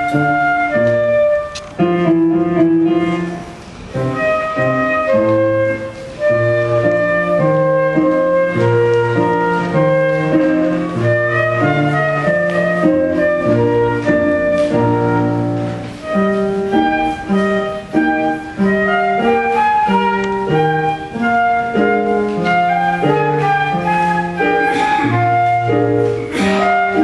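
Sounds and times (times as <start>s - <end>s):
flute playing quick melody: 0.0s - 27.0s
piano accompaniment: 0.0s - 27.0s.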